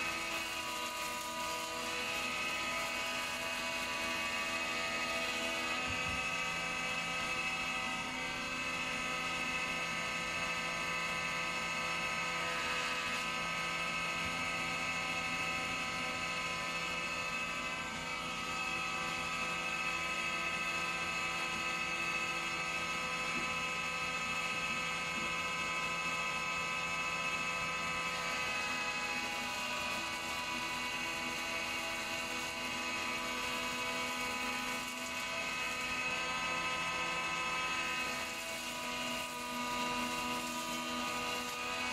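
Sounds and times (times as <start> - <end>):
planer whining: 0.0 - 41.9.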